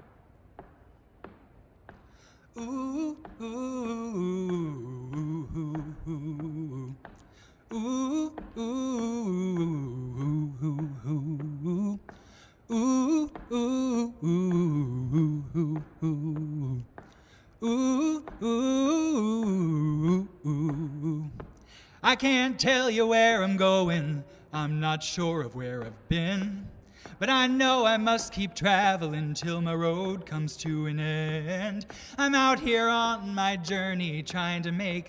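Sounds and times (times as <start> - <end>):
man singing unaccompanied: 2.6 - 12.1, 12.7 - 17.0, 17.6 - 35.0.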